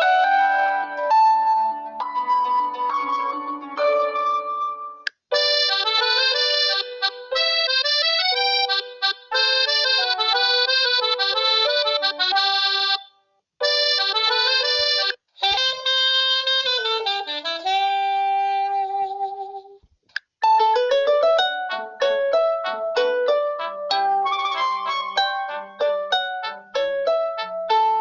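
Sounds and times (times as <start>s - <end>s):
synthesized ringtone melodies: 0.0s - 18.6s, 20.4s - 28.0s.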